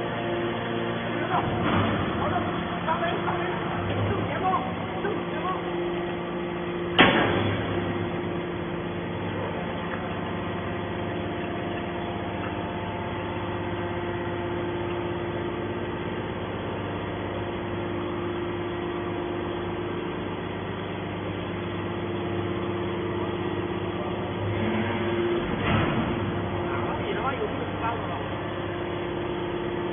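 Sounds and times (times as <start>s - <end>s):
hydraulic baler humming: 0.0s - 29.9s.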